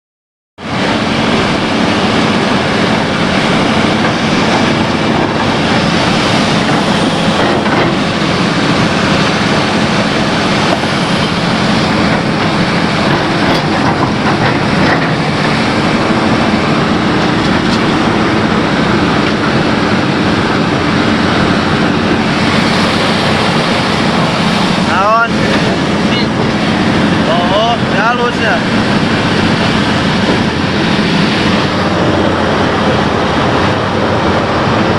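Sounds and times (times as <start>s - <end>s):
diesel excavator engine running: 0.6s - 34.9s.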